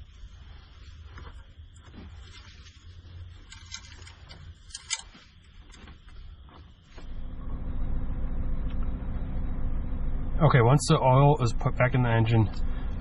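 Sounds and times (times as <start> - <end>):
car engine idling: 0.4 - 13.0.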